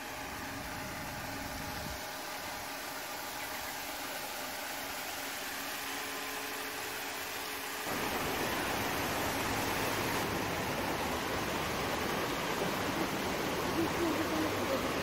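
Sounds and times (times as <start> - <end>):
low steady hum: 0.0 - 15.0
running water rushing: 0.0 - 15.0.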